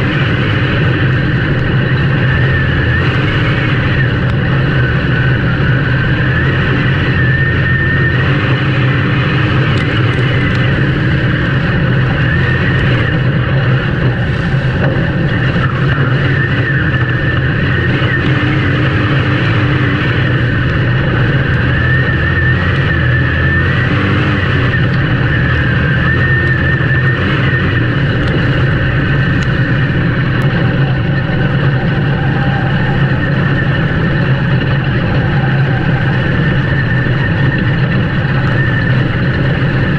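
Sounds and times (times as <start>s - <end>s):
race vehicle engine droning: 0.0s - 39.9s.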